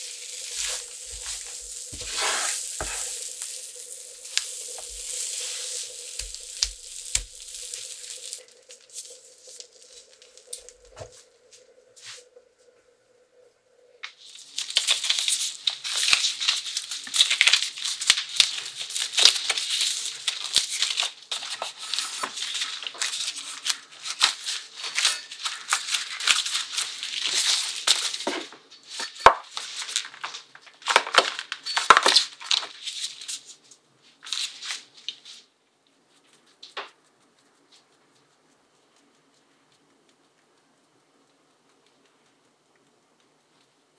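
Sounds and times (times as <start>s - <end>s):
plastic gloves crinkling: 0.0s - 11.2s, 14.1s - 38.0s.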